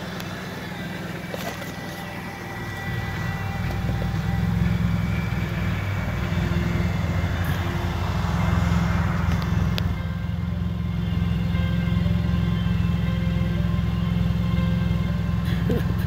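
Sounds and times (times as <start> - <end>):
car engine idling: 0.0 - 16.0
passing traffic: 0.0 - 16.0.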